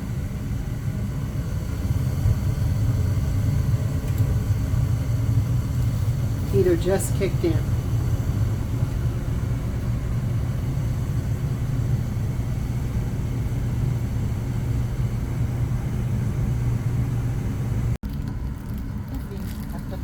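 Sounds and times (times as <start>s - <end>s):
gas furnace humming: 0.0s - 20.0s.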